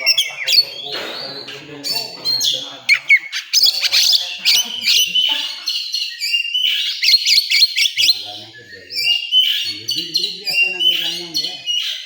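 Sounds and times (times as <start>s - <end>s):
songbird whistling song: 0.0s - 12.0s.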